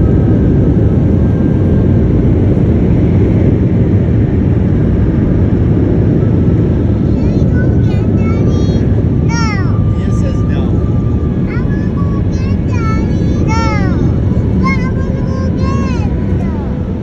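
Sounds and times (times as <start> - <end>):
car wash blowers roaring: 0.0 - 17.0.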